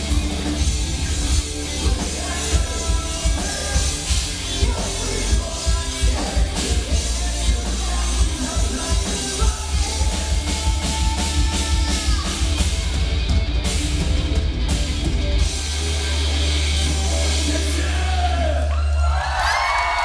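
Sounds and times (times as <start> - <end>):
fast drumming: 0.0 - 18.1
live heavy metal band: 0.0 - 20.0.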